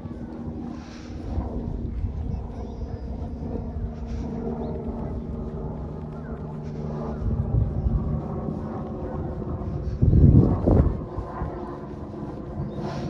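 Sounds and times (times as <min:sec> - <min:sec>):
low engine drone: 0:00.0 - 0:13.0
outdoor ambience: 0:00.0 - 0:13.0.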